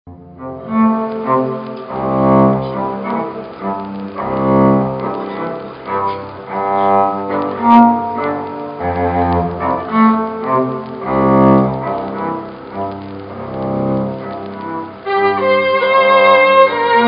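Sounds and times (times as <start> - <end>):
cello bowing long notes: 0.1 - 17.0.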